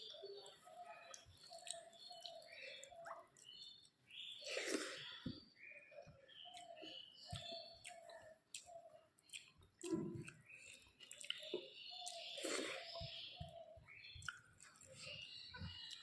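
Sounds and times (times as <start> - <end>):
wet chewing and mouth smacks: 0.0 - 5.4, 6.4 - 16.0.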